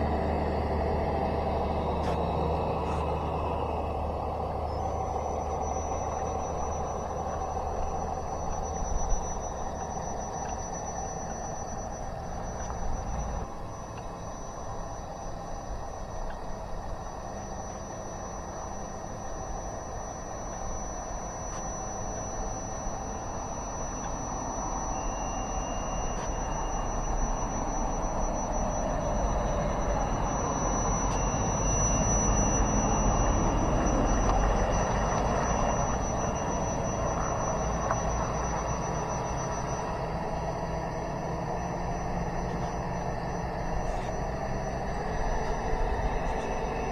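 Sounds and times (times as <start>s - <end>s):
thin high whine: 0.0s - 46.9s.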